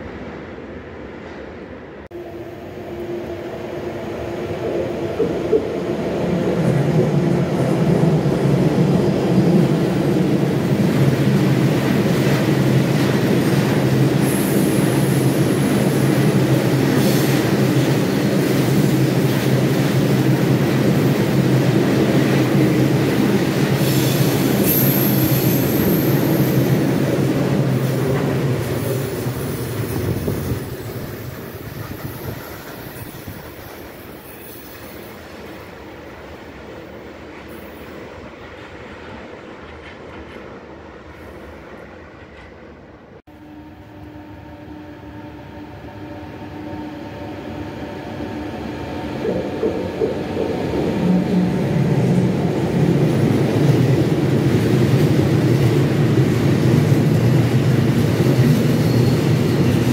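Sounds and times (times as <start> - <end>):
train passing close by: 0.0 - 59.9.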